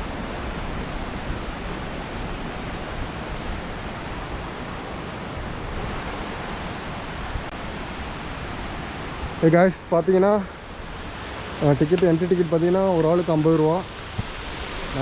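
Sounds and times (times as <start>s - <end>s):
waterfall stream rushing: 0.0s - 15.0s.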